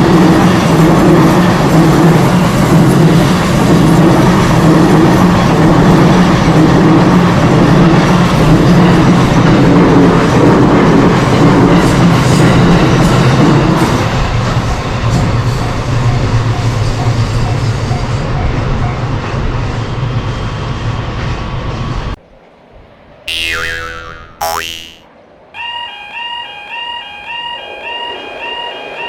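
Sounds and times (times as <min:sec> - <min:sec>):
electric train passing: 0:00.0 - 0:23.2, 0:25.2 - 0:29.0.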